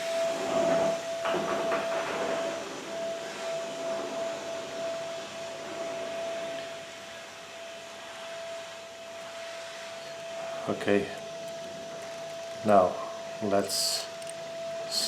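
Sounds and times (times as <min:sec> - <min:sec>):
high-pitched hum: 0:00.0 - 0:15.0.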